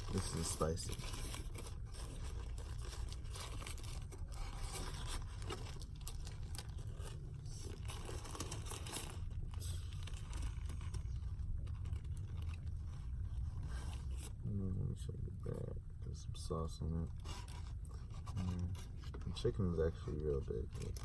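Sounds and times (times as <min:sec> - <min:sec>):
wrapper crinkling and rustling: 0:00.0 - 0:14.4, 0:17.0 - 0:21.0
steady low hum: 0:00.0 - 0:21.0.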